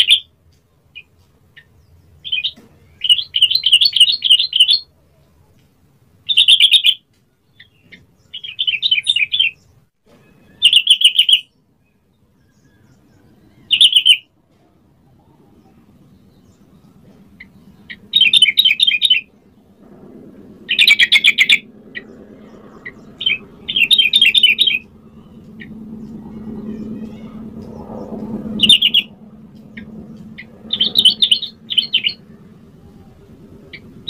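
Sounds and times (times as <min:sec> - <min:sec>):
bird singing chattering phrases: 0:01.0 - 0:04.9, 0:06.3 - 0:12.0, 0:12.9 - 0:14.2, 0:15.1 - 0:19.7, 0:20.6 - 0:34.0.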